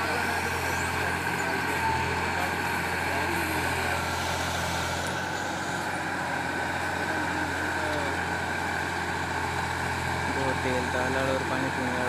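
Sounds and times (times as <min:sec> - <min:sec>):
backhoe hydraulics: 0:00.0 - 0:12.0
tractor diesel engine running: 0:00.0 - 0:12.0.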